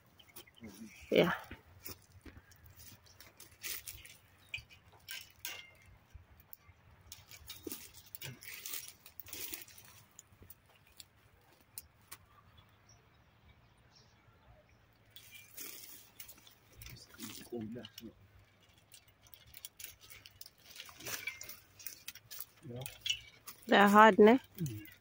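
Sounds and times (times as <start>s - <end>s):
rake rustling among dry branches: 0.2s - 12.2s, 15.1s - 25.0s.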